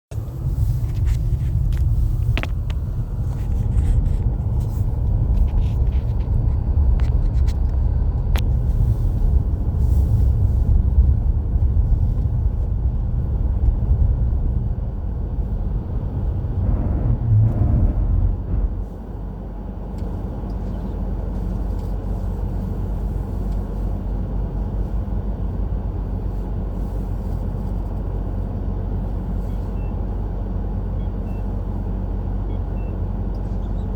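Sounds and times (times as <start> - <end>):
car engine and tyre rumble: 0.0 - 33.9.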